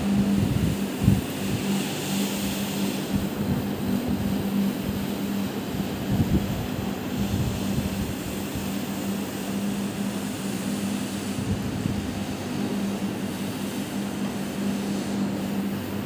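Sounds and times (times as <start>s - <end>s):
floor scrubber humming: 0.0s - 16.0s.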